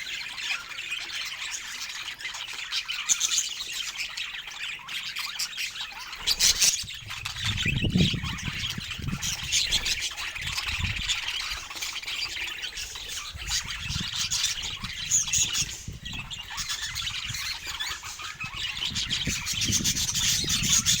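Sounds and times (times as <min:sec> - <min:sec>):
budgerigars chattering: 0:00.1 - 0:21.0.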